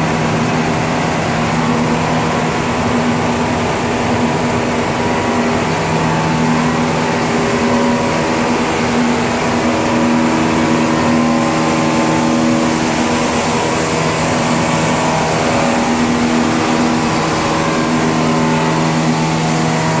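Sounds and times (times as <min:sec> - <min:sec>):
printing press running: 0:00.0 - 0:20.0.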